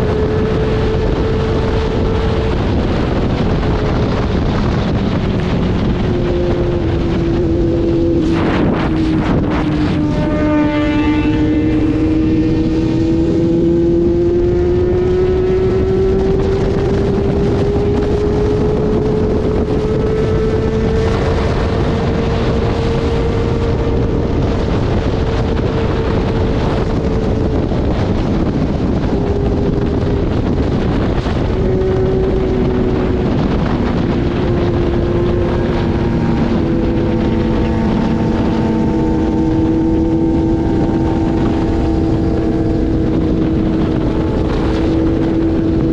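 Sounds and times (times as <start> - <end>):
motorcycle engine running: 0.0 - 45.9
wind rush: 0.0 - 45.9.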